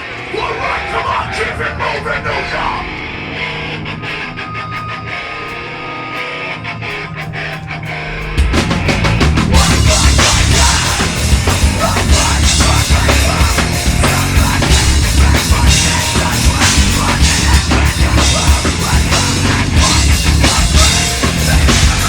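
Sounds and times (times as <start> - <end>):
heavy metal band playing: 0.0 - 22.0.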